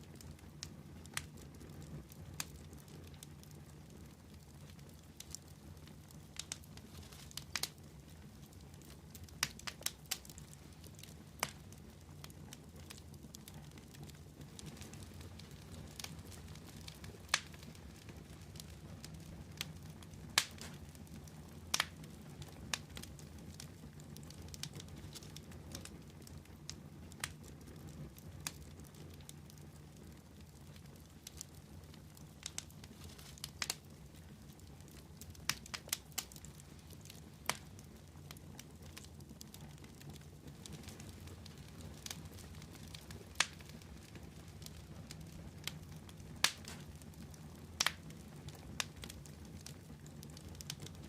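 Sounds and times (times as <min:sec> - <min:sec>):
fire pops: 0:00.0 - 0:51.0
wood fire crackling: 0:00.0 - 0:51.0.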